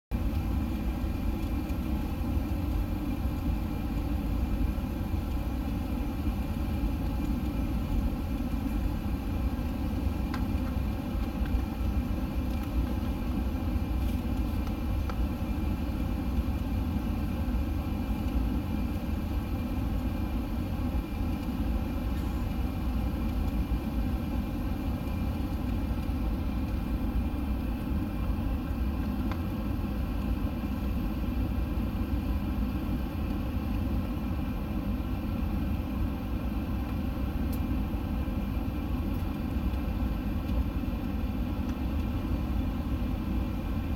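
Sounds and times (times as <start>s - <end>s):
jet engines running: 0.1s - 43.9s.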